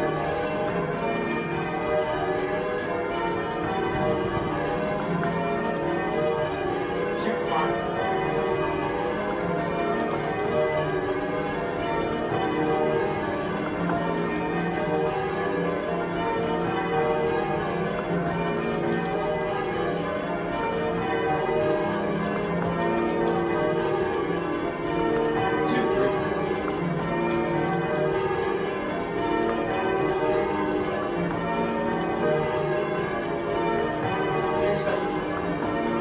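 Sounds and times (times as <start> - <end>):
bells pealing: 0.0 - 36.0.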